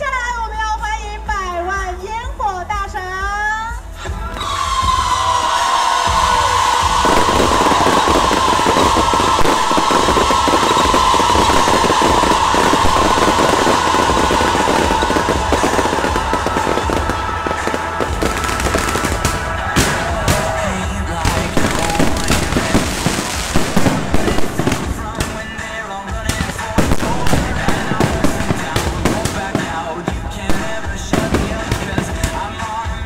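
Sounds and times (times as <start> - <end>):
music: 0.0 - 33.0
fireworks bangs: 4.4 - 33.0
fireworks crackling: 4.5 - 33.0.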